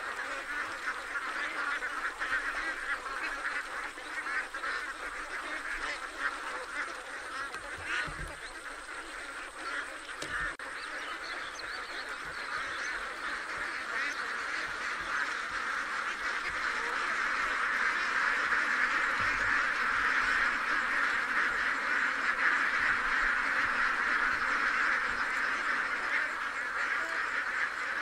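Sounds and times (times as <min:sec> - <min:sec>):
ducks quacking: 0:00.0 - 0:28.0.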